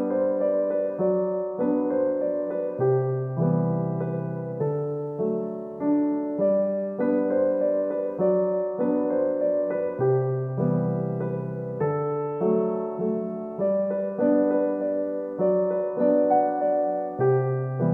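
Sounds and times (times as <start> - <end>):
gentle keyboard melody: 0.0 - 17.9.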